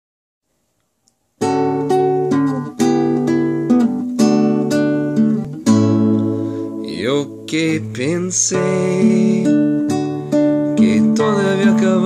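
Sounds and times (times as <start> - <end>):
classical guitar strummed chords: 1.4 - 12.0.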